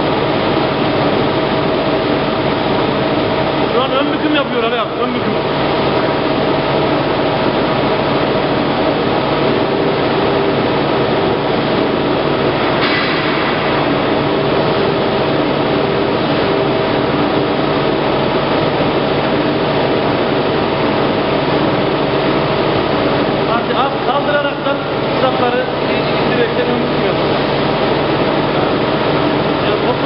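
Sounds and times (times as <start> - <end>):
plate rolling machine humming: 0.0 - 30.0.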